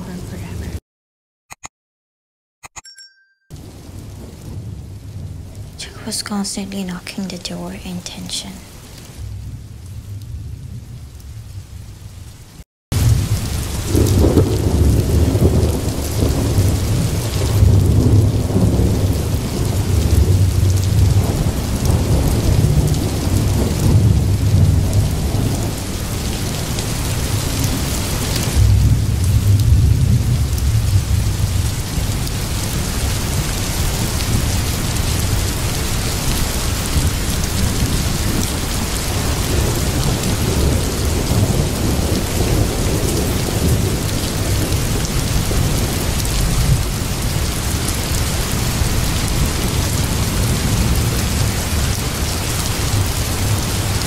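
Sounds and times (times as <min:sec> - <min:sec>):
rain hissing: 0:03.5 - 0:54.0
thunder rumbling: 0:03.6 - 0:54.0.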